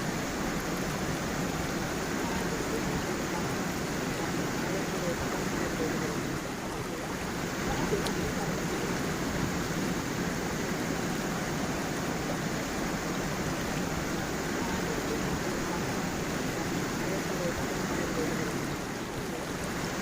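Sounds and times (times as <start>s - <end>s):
water flowing over stones: 0.0s - 20.0s.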